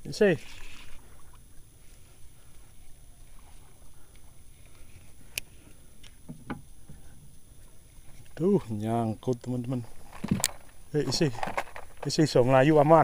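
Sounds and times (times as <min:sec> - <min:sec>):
water around boat: 0:00.0 - 0:13.0
wind: 0:00.0 - 0:13.0.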